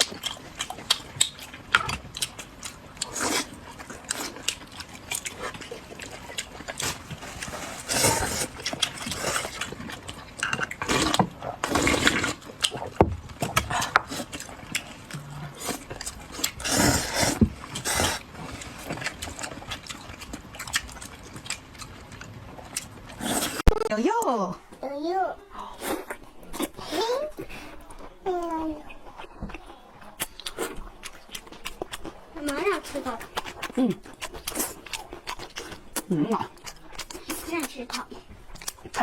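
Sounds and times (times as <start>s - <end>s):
wet chewing and slurping: 0.0s - 23.9s, 28.9s - 39.0s.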